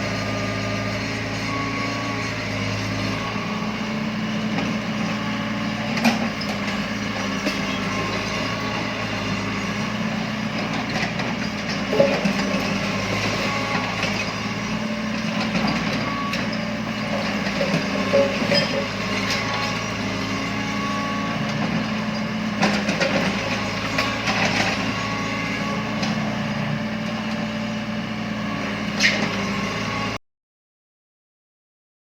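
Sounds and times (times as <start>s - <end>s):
heavy machinery engine humming: 0.0s - 30.2s.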